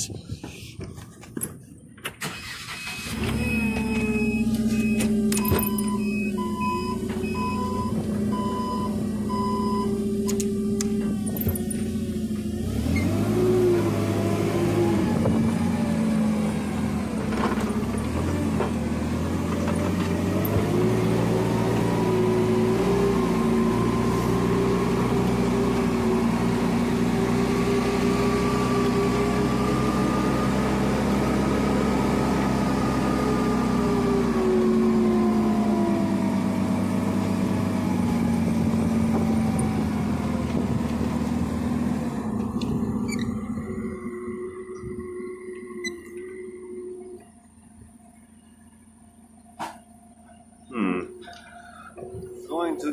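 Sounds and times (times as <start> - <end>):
forklift engine running: 0.0 - 52.9.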